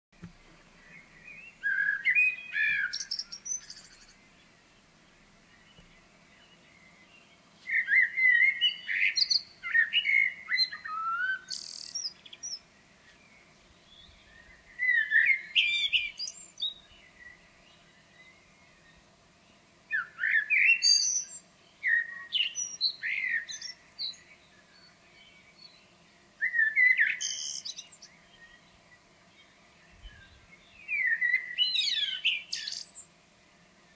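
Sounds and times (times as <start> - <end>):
blackbird singing: 0.4 - 33.1.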